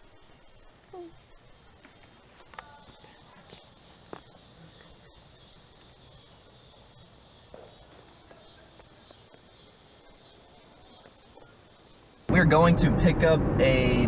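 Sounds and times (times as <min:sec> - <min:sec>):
high-pitched insect chorus: 0:00.0 - 0:12.2.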